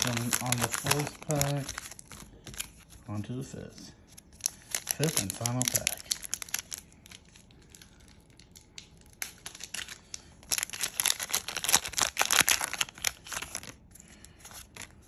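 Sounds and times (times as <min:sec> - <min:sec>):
foil wrapper tearing and crinkling: 0:00.0 - 0:02.9, 0:04.3 - 0:15.0.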